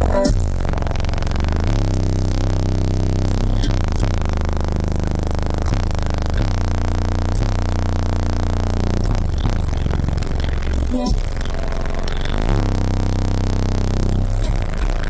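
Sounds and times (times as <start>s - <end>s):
loud bass-heavy music: 0.0s - 15.0s.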